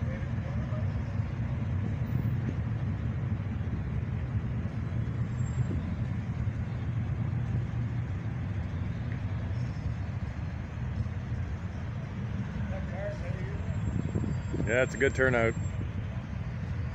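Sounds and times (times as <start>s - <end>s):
cars rolling past slowly: 0.0s - 16.9s.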